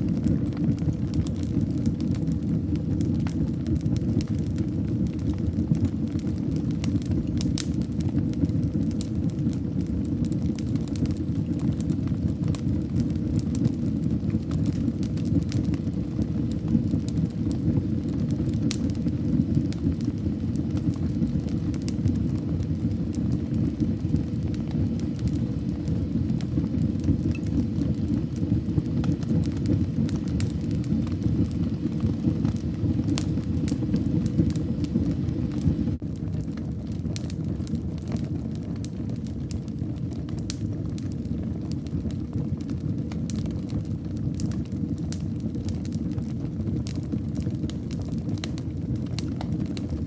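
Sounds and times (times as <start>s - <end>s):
fire crackling in fireplace: 0.0s - 50.0s.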